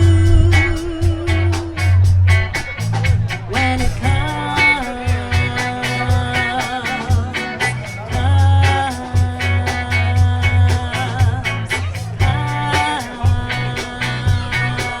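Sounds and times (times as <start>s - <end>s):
live band playing: 0.0s - 15.0s
steady drumbeat: 0.0s - 15.0s.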